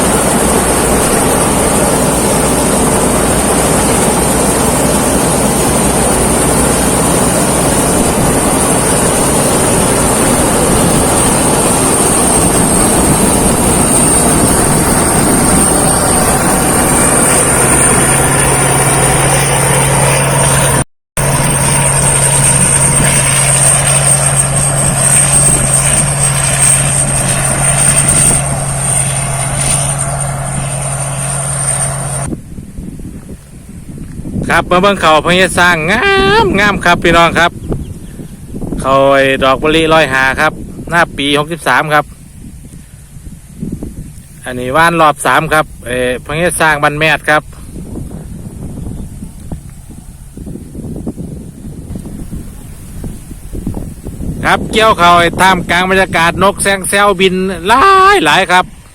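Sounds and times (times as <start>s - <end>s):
combine harvester engine drone: 0.0s - 58.9s
high machinery whine: 0.0s - 58.9s.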